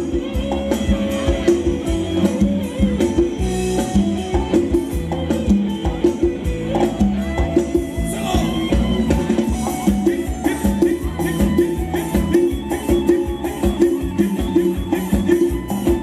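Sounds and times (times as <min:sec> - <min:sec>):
fast drum and percussion beat: 0:00.0 - 0:16.0
live band dance music: 0:00.0 - 0:16.0.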